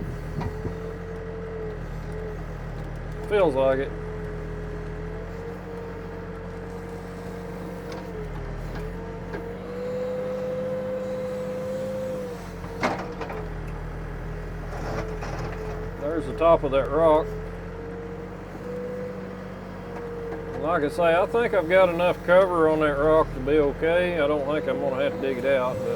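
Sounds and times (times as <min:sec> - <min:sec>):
backhoe engine and hydraulics: 0:00.0 - 0:25.9.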